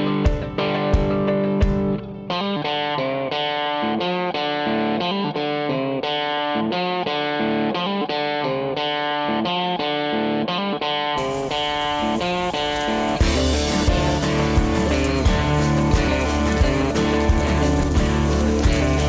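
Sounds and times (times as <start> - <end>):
instrumental guitar music: 0.0 - 19.0.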